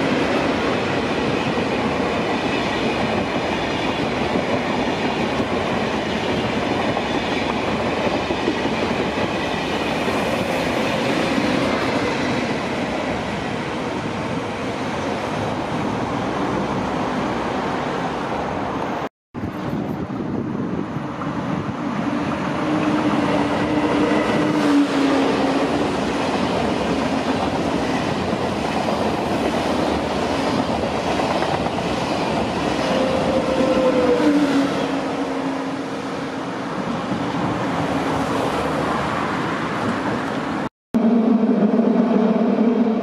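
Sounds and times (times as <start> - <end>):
train humming tone: 0.0 - 43.0
train wheels rushing on rail: 0.0 - 43.0.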